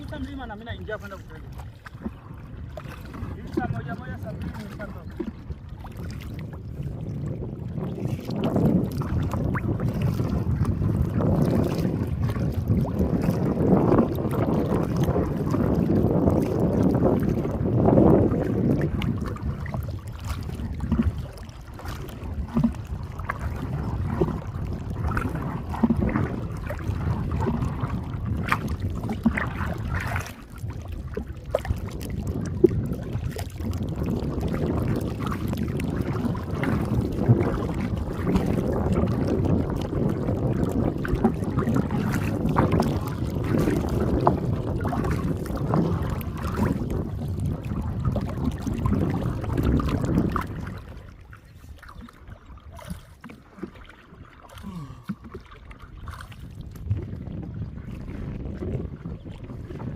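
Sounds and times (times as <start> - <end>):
water sloshing: 0.0 - 59.9
water splashes: 0.0 - 59.9
wind rumbling on microphone: 0.0 - 59.9.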